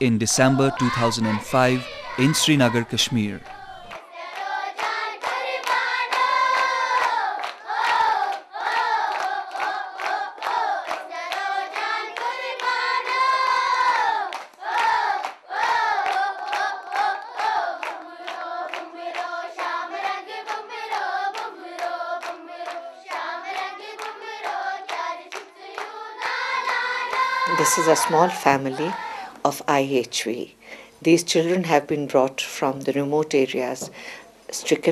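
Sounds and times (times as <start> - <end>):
hands clapping along: 0.4 - 29.1
children singing together: 0.4 - 29.5.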